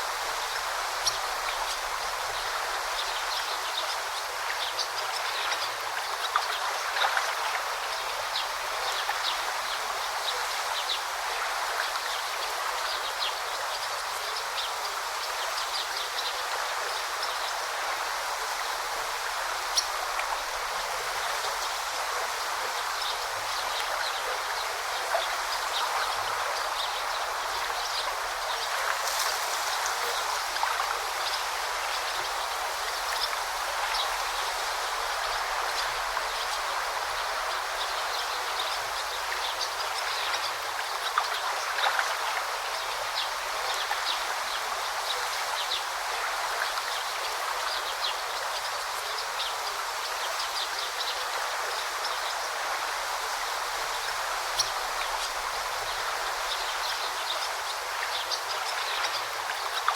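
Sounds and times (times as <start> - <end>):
brook babbling: 0.0 - 59.9.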